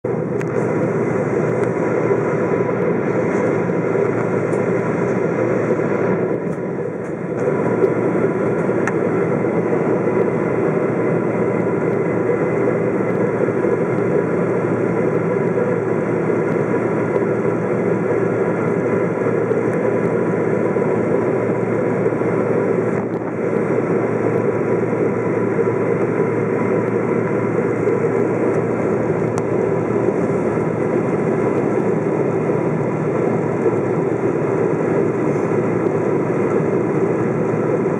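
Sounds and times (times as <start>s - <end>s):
aircraft cabin engine drone: 0.0s - 37.9s.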